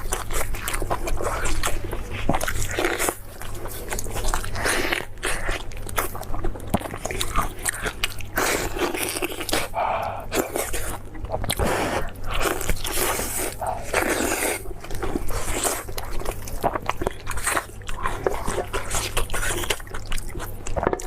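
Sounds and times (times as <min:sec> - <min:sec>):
steady low hum: 0:00.0 - 0:21.0
wet biting and chewing: 0:00.0 - 0:21.0.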